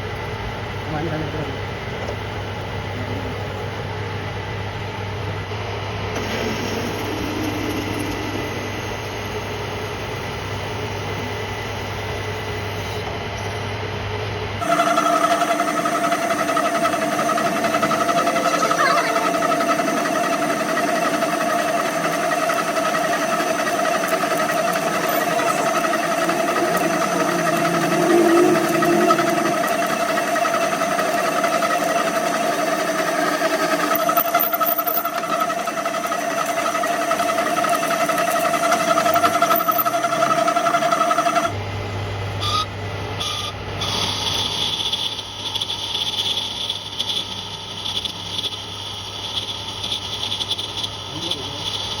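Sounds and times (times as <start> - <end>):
metal lathe whining: 5.4 - 13.1, 14.6 - 41.6, 42.4 - 52.0.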